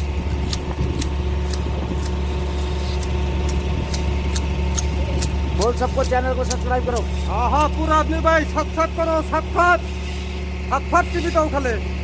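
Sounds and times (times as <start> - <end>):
hedge shears clipping: 0.0 - 11.8
truck engine idling: 0.0 - 12.0.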